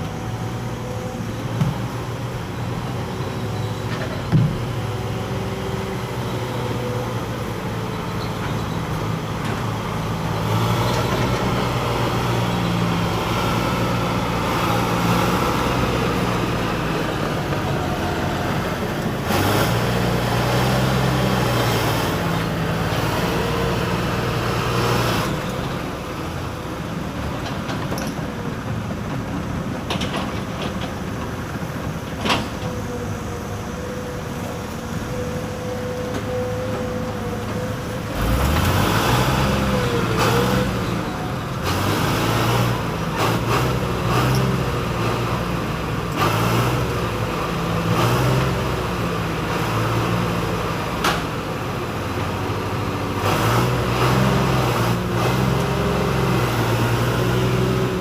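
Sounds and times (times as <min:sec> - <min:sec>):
excavator diesel engine working: 0:00.0 - 0:58.0.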